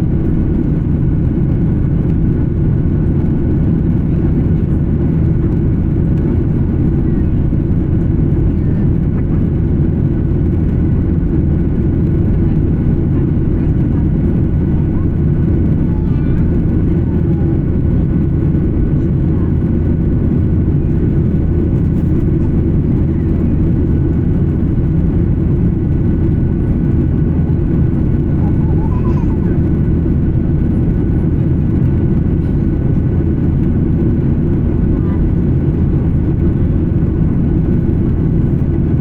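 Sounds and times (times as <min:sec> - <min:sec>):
jet cabin drone: 0:00.0 - 0:39.0.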